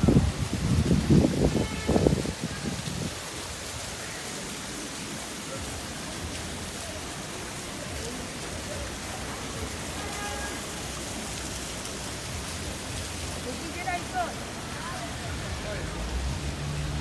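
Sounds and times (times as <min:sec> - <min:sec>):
water splashing on stone paving: 0:00.0 - 0:17.0.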